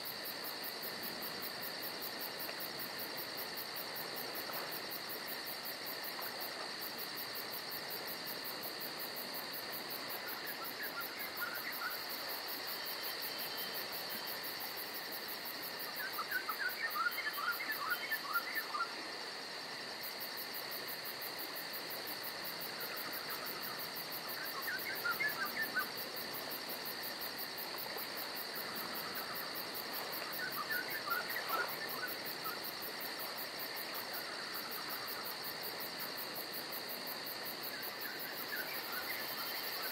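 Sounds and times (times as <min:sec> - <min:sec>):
insects droning and trilling: 0:00.0 - 0:39.9.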